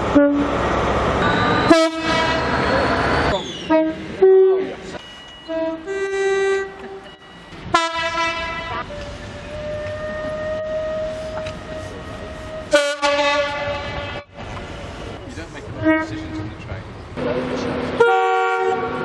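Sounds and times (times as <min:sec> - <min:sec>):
train two-tone horn: 0:01.2 - 0:16.7, 0:17.9 - 0:19.0.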